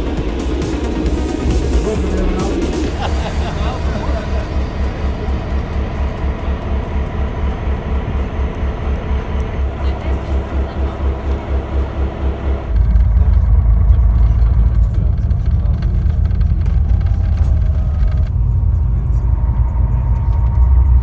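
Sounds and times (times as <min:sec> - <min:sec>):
bus driving rumble inside cabin: 0:00.0 - 0:21.0
diesel locomotive idling: 0:00.0 - 0:21.0.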